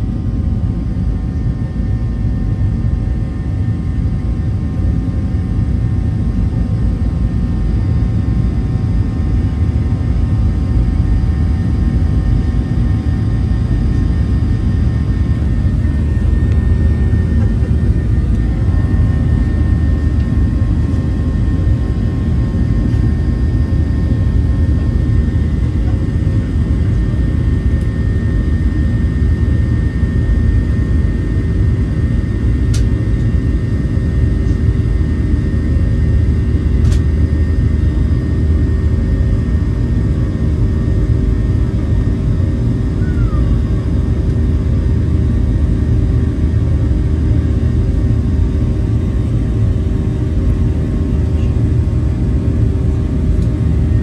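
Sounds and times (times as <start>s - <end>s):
airliner cabin rumble and hum: 0.0s - 54.0s.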